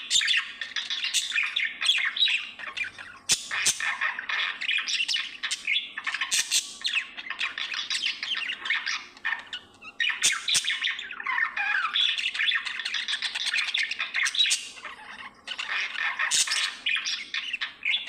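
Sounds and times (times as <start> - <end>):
budgerigar chattering: 0.1 - 18.0.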